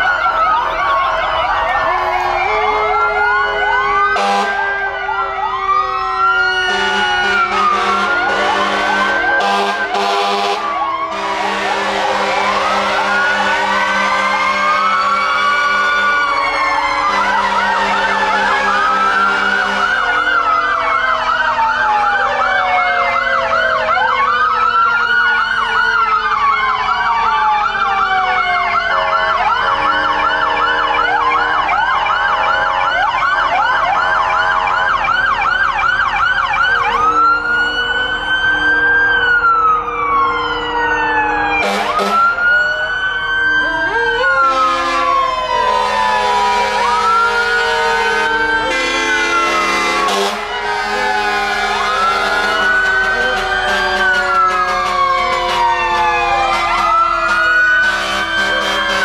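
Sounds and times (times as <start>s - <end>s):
fast siren yelp: 0.0s - 59.0s
sirens wailing: 0.0s - 59.0s.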